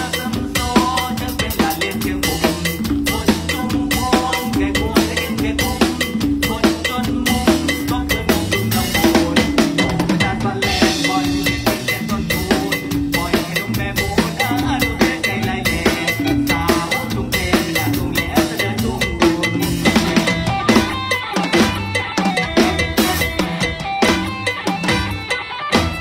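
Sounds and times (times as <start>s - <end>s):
live band music with drum kit: 0.0s - 26.0s.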